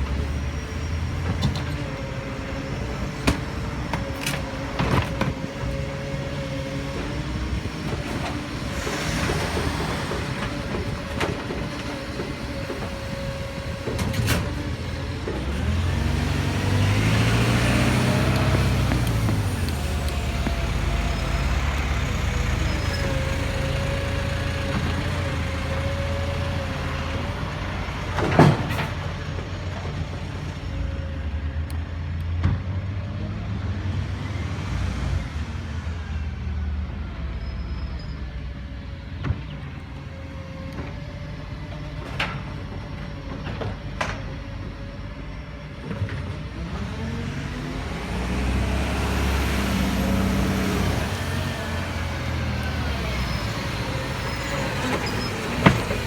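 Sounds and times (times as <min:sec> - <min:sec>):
truck engine whining: 0:00.0 - 0:56.0.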